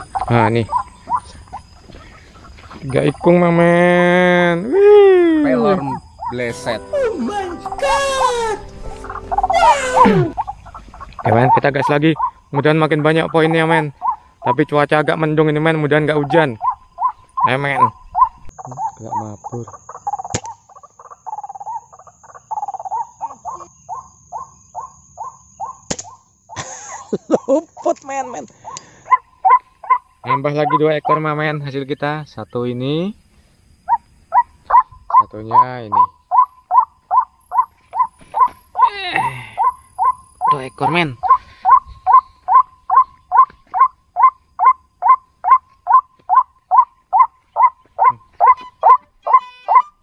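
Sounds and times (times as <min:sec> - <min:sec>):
waterhen calling: 0:00.0 - 0:25.8, 0:27.4 - 0:31.7, 0:33.8 - 0:50.0
insects trilling: 0:00.0 - 0:50.0.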